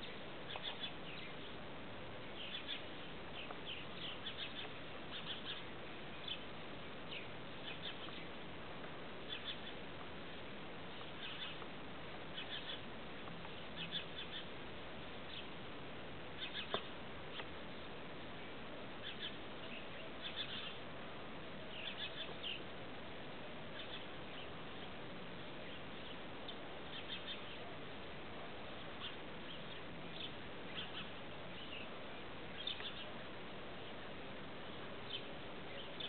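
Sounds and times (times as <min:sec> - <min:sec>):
small birds chirping: 0:00.0 - 0:36.0
steady background hiss: 0:00.0 - 0:36.0.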